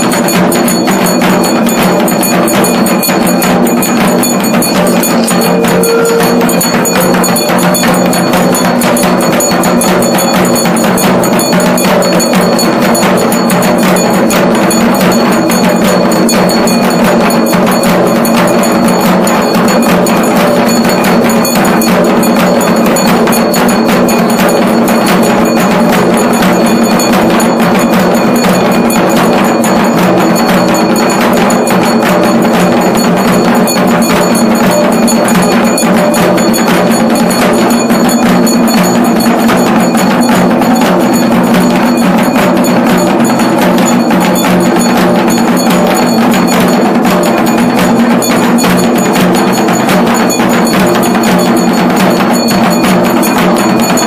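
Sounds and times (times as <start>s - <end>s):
bell-like ringing: 0.0s - 54.0s
drums and clanging: 0.0s - 54.0s.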